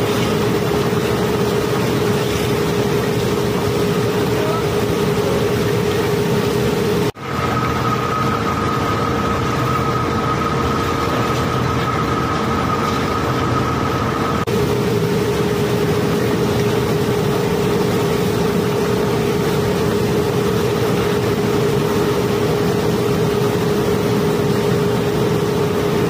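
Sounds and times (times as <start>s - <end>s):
thin machine whine: 0.0s - 26.0s.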